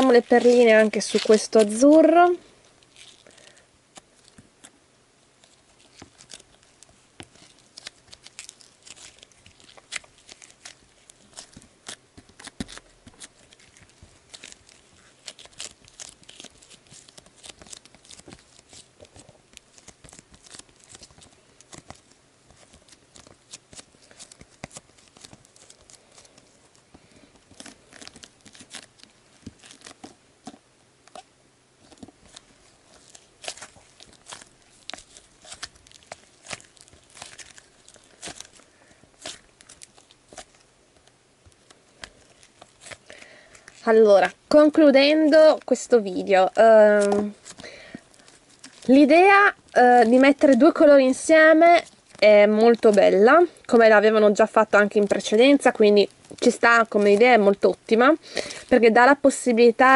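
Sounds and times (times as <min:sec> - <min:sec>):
slime crackling and popping: 0:00.0 - 0:04.7, 0:05.4 - 0:57.7.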